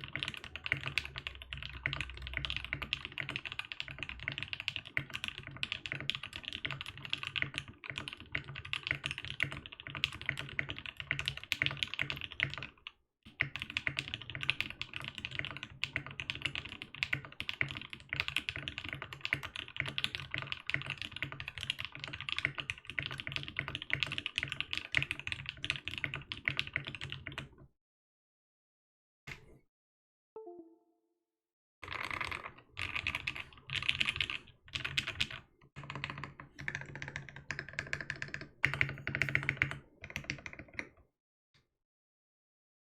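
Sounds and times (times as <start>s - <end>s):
mechanical keyboard typing: 0.0s - 27.5s, 31.9s - 41.0s.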